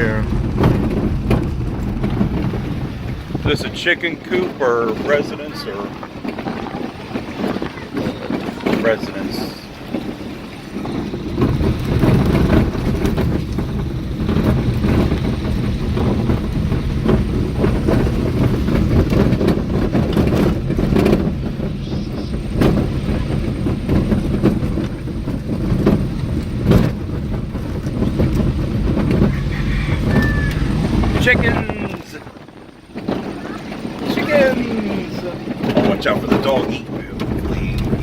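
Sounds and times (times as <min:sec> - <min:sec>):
vehicle engine and road rumble: 0:00.0 - 0:38.0
vehicle knocks and jolts: 0:00.0 - 0:38.0.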